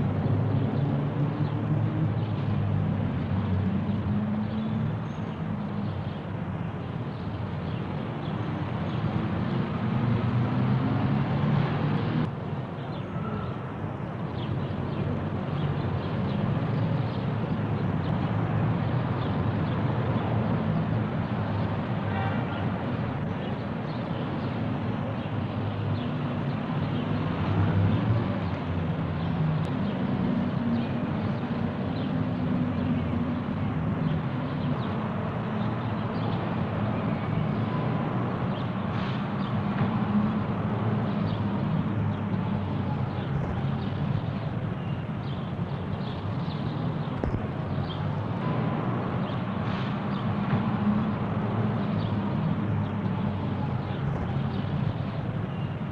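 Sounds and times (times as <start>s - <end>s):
distant traffic rumble: 0.0s - 55.9s.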